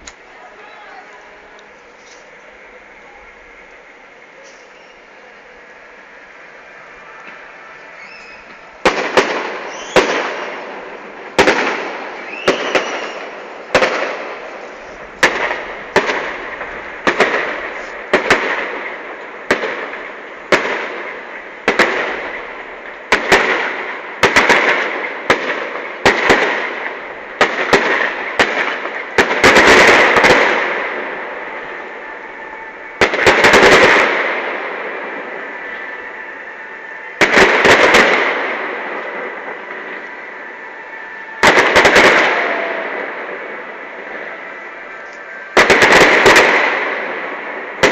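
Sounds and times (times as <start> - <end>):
fireworks bursting with bangs: 0.0 - 47.9
fireworks whistling: 0.0 - 47.9.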